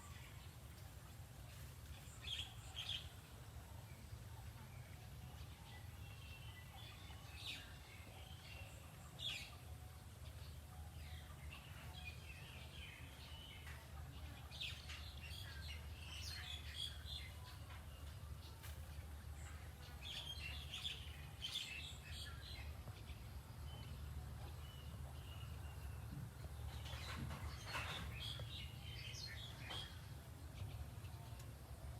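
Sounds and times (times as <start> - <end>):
wild birds chirping: 0.0 - 31.9.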